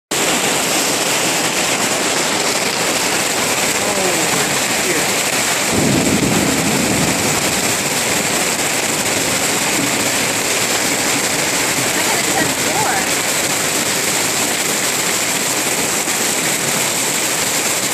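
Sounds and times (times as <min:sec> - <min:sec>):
hail and heavy rain on pavement: 0:00.1 - 0:17.9.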